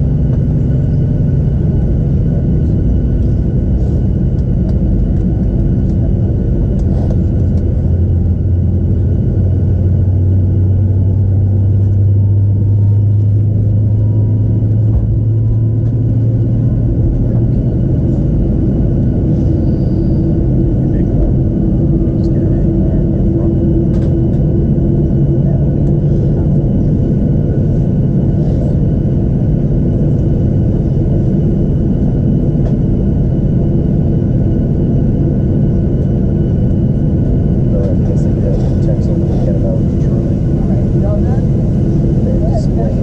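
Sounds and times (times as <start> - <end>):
faint whining tones: 0.0 - 43.0
jet engines idling rumble: 0.0 - 43.0.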